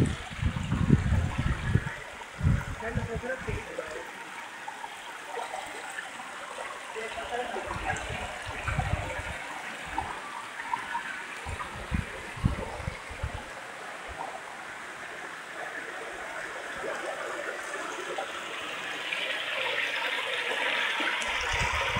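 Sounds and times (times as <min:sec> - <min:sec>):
stream running over rocks: 0:00.0 - 0:21.9.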